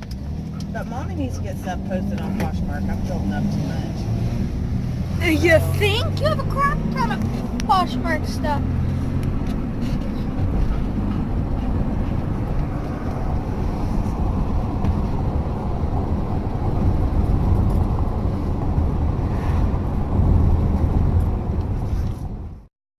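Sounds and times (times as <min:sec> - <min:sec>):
road and engine noise in car: 0:00.0 - 0:22.7.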